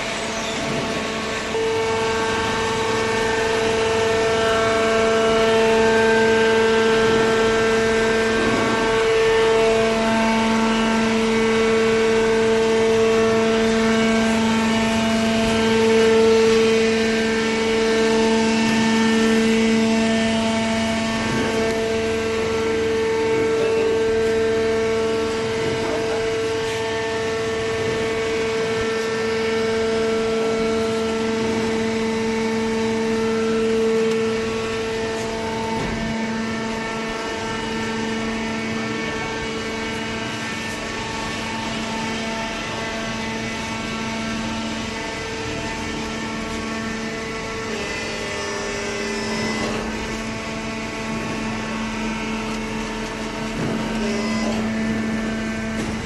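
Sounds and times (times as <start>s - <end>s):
hydraulic machine hum and whine: 0.0s - 56.0s.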